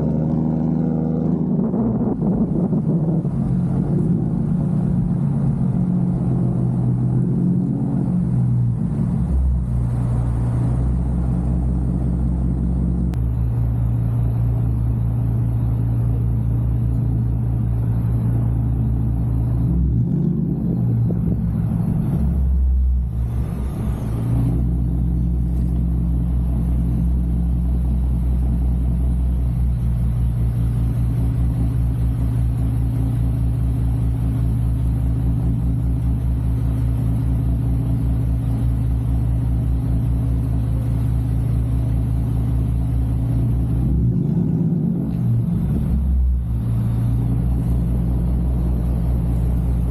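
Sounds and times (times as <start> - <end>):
car engine droning: 0.0 - 49.9
road rumble: 0.0 - 49.9.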